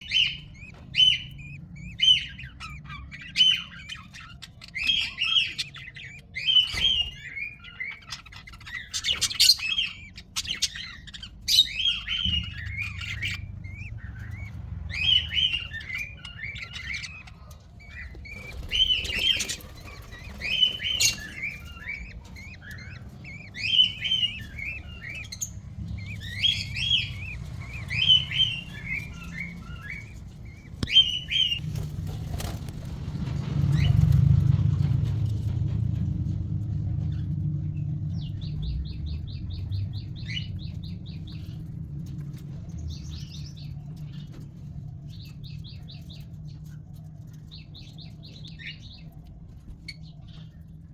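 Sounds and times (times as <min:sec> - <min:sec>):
budgerigar chicks chirping: 0:00.0 - 0:35.6, 0:37.0 - 0:50.9.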